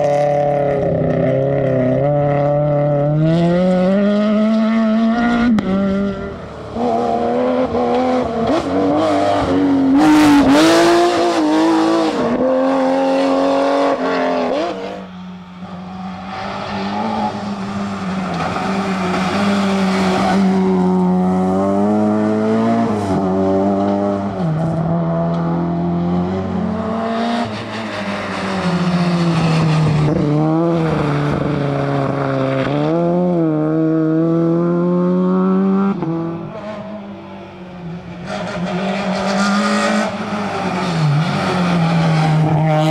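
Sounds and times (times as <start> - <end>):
rally car engines at full throttle: 0.0 - 42.9.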